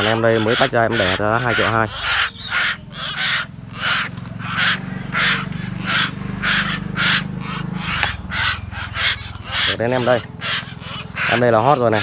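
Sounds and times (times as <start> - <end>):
mynas giving harsh rasping calls: 0.0 - 12.0.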